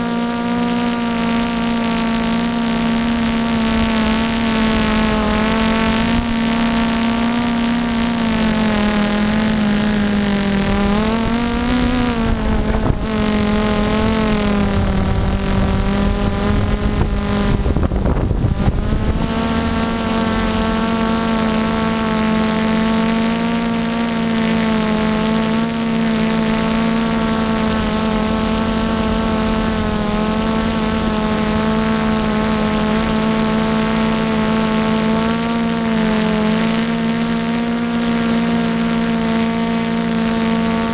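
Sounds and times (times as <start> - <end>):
drone motors humming: 0.0 - 40.9
wind noise on microphone: 1.5 - 37.3.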